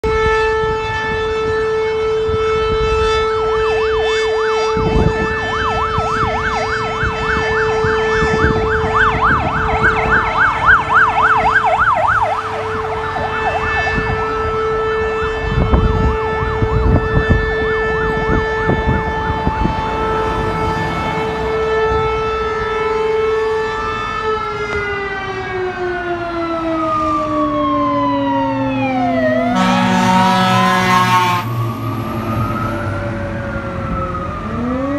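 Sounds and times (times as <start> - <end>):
electronic siren warbling: 0.0 - 34.9
fire engine air horn: 0.0 - 34.9.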